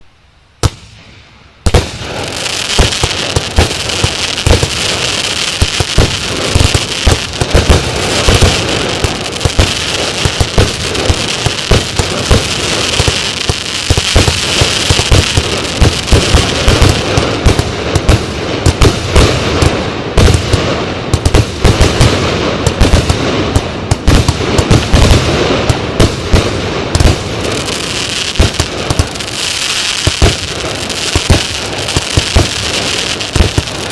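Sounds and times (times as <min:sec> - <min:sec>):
fireworks volley crackling: 0:00.6 - 0:33.9.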